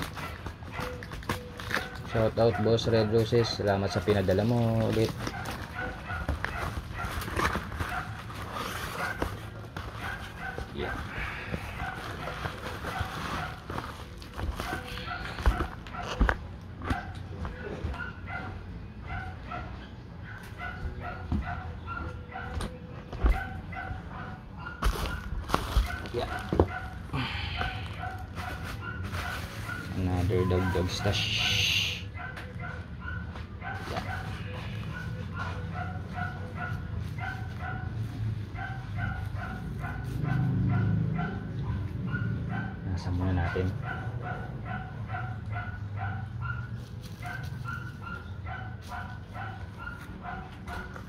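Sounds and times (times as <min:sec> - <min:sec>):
dog yipping: 0:00.0 - 0:09.4, 0:10.0 - 0:13.9, 0:14.5 - 0:27.0, 0:27.6 - 0:51.0.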